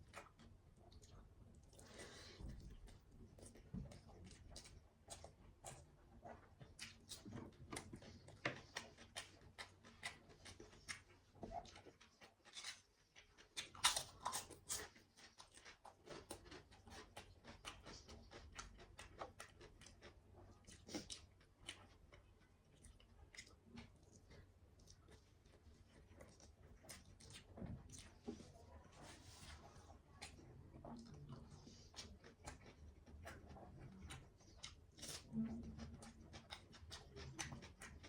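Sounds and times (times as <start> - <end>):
chewing and mouth smacks: 0.0 - 28.6, 29.5 - 38.0.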